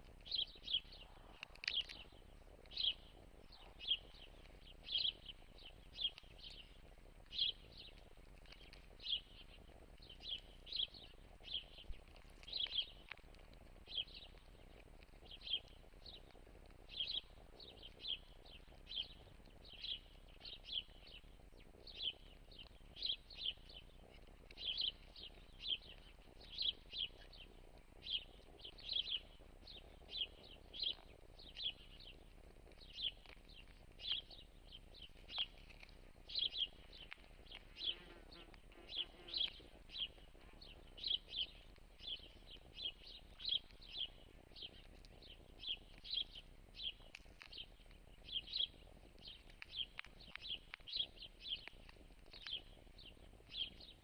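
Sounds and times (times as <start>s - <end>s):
faint steady background noise: 0.0s - 54.0s.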